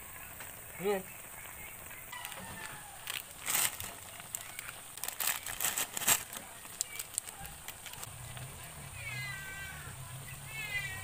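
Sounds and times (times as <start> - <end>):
sauce simmering in a wok: 0.0 - 5.5, 6.2 - 11.0
dry noodles rustling and crackling: 0.5 - 9.8.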